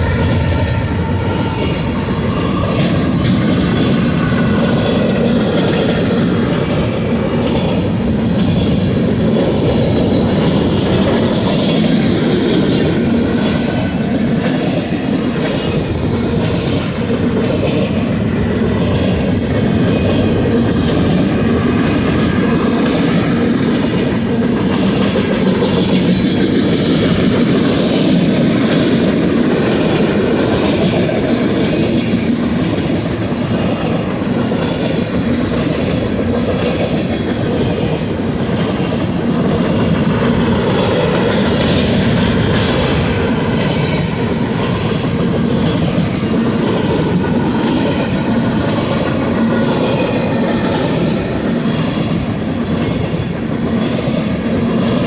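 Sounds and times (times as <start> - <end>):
freight train cars rolling past: 0.0 - 55.0
wheels clicking over rail joints: 1.4 - 55.0.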